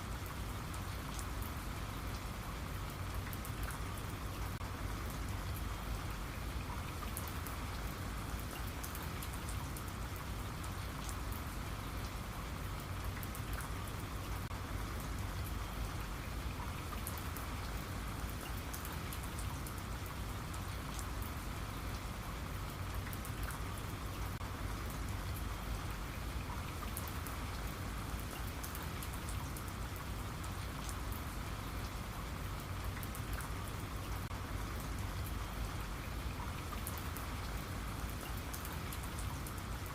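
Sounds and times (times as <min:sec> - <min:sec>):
raindrops ticking on a surface: 0:00.0 - 0:39.9
steady rain: 0:00.0 - 0:39.9.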